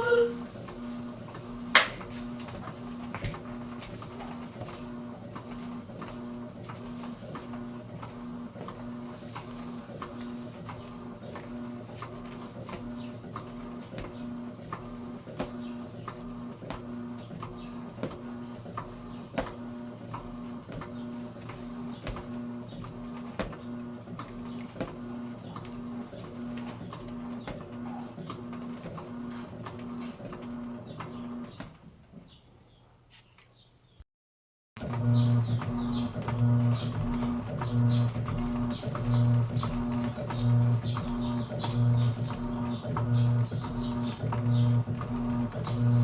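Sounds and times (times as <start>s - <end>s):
washing machine motor humming: 0.0s - 32.4s, 34.8s - 46.0s.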